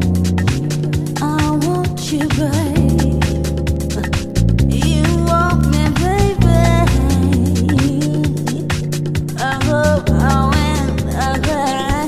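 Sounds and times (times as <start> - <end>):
funk music with steady beat: 0.0 - 12.0.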